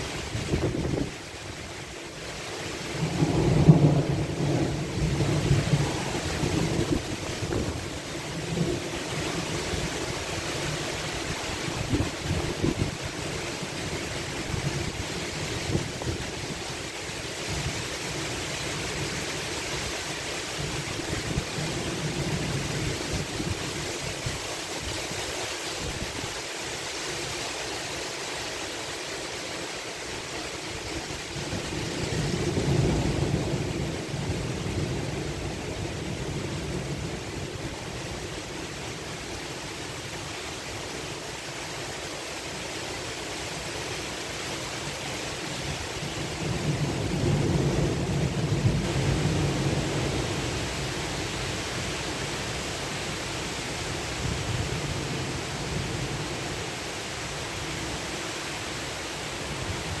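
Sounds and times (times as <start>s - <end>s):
heavy rain hissing: 0.0s - 60.0s.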